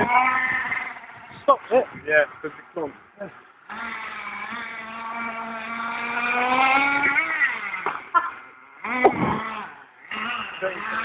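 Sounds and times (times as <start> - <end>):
nitro model car engine revving: 0.0 - 1.6, 3.2 - 11.0.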